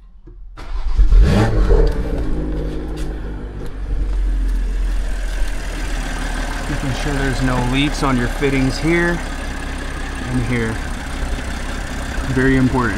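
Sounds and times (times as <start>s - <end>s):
car engine starting and idling: 0.5s - 12.9s.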